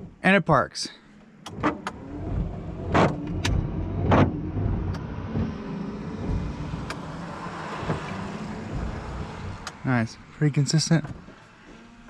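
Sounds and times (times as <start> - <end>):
windshield wipers swishing: 1.4 - 12.0.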